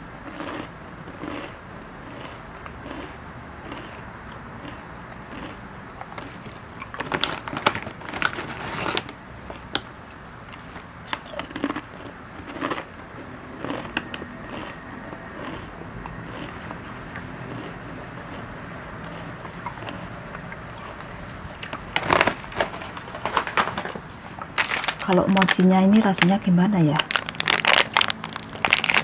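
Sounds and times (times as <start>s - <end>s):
potato chips crunching: 0.3s - 9.9s, 10.5s - 12.9s, 13.5s - 29.0s.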